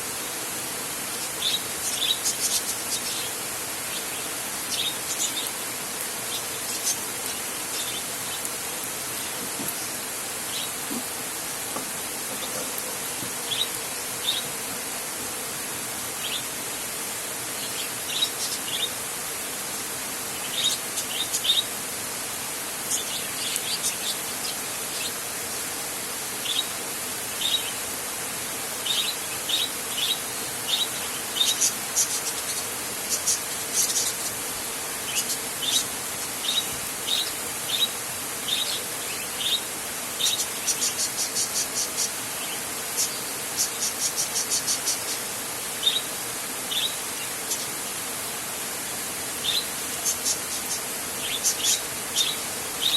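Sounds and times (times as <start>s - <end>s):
rain hissing: 0.0s - 52.9s.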